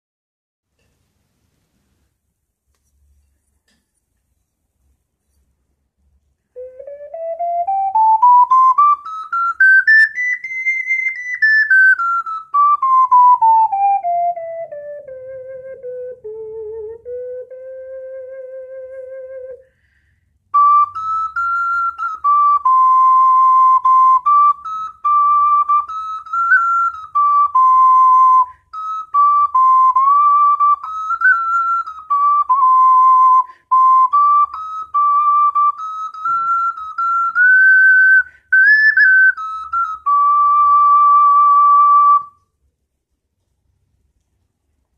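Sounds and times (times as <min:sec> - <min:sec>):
ocarina melody: 0:06.3 - 0:42.6.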